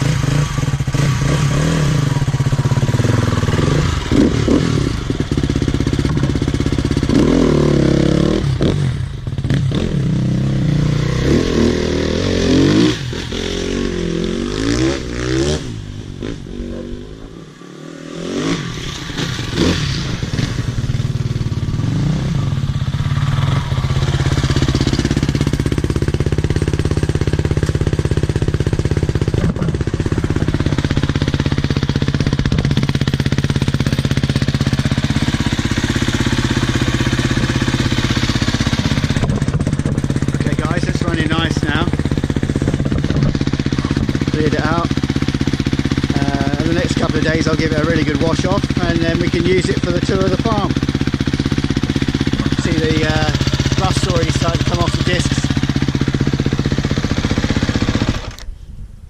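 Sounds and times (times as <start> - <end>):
motorcycle engine revving: 0.0 - 58.5.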